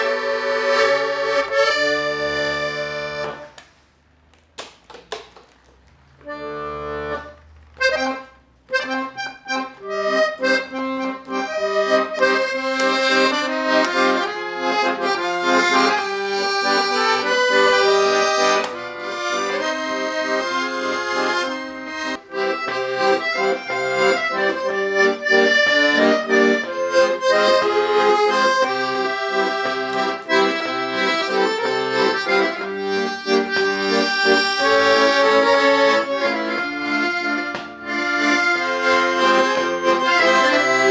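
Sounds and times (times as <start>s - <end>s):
accordion playing a tune: 0.0s - 4.2s, 6.0s - 40.9s.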